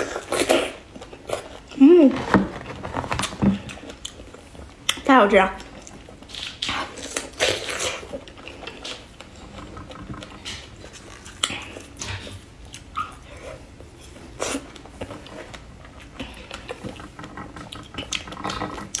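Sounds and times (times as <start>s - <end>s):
chewing with wet smacks: 3.6s - 19.0s.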